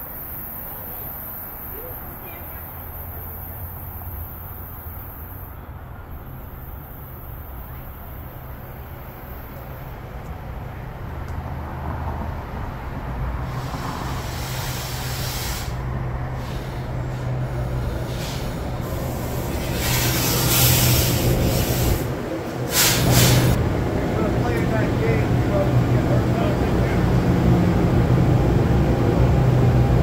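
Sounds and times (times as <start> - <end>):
train hissing: 0.0 - 10.0, 13.3 - 30.0
electric train humming: 0.0 - 30.0.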